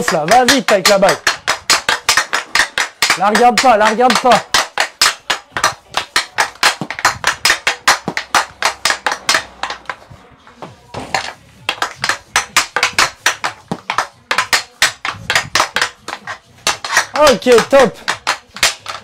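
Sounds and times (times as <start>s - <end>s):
hockey stick clicking on golf ball: 0.0s - 10.0s, 11.0s - 19.0s.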